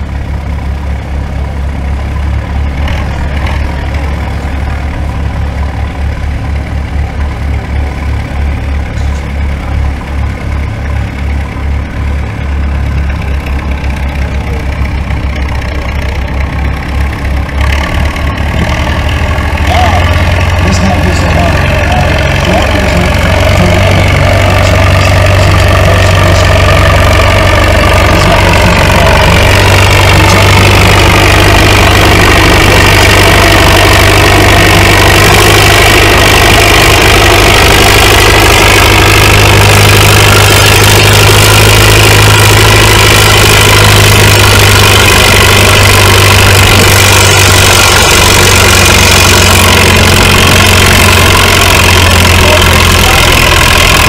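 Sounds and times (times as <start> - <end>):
tractor engine running hard: 0.0 - 54.0.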